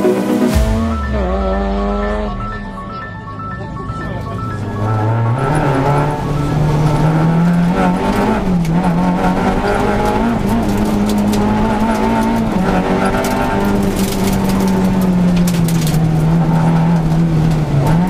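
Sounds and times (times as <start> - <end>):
rally car engine at high revs: 0.0 - 2.4, 4.6 - 18.0.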